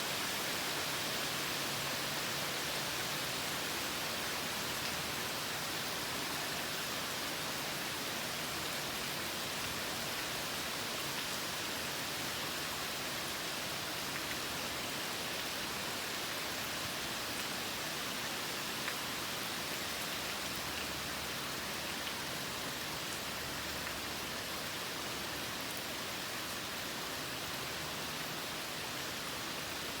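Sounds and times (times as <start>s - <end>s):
steady rainfall hiss: 0.0s - 30.0s.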